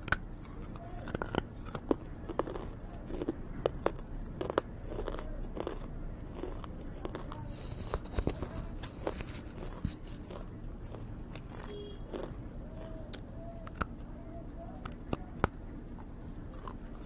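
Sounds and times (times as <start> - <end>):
crunchy biting: 0.0 - 14.0, 14.8 - 17.0
chewing: 0.0 - 17.0.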